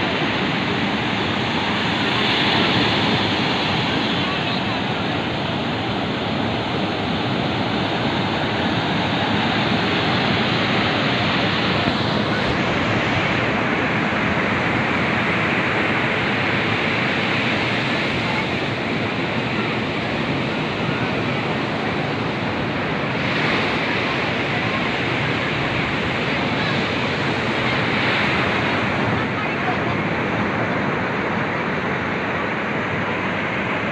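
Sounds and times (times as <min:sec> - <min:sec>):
waves washing onto shore: 0:00.0 - 0:33.9.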